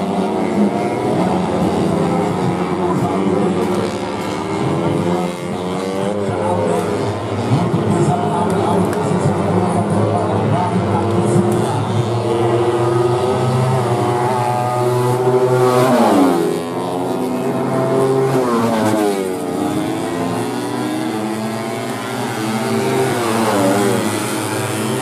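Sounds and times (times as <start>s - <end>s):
motorcycles revving high: 0.0s - 25.0s.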